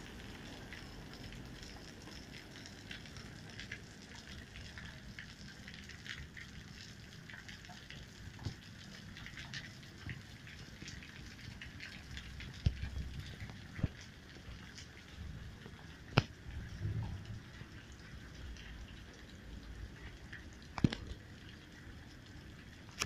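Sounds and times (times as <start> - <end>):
rain pattering on concrete: 0.0 - 23.0.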